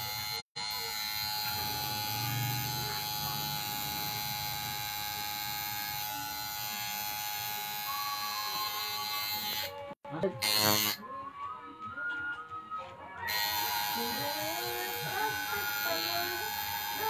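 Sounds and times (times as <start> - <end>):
tattoo machine buzzing: 0.0 - 11.0, 13.3 - 17.0.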